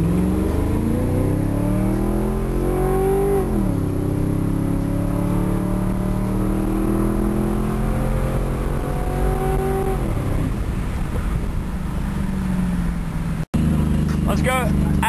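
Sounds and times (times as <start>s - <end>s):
car engine at full throttle: 0.0s - 15.0s
road noise: 0.0s - 15.0s.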